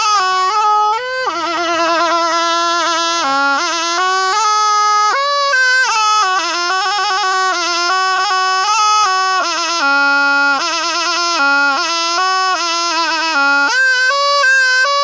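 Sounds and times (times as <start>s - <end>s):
reed pipe melody: 0.0s - 15.0s.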